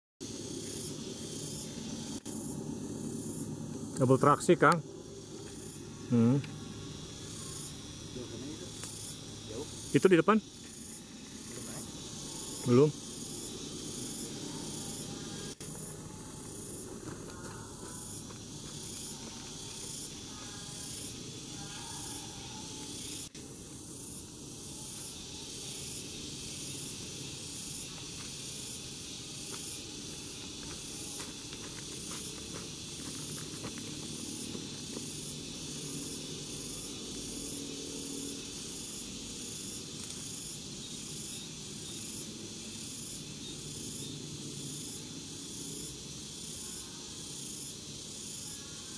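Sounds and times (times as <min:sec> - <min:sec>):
insects shrilling: 0:00.2 - 0:48.9.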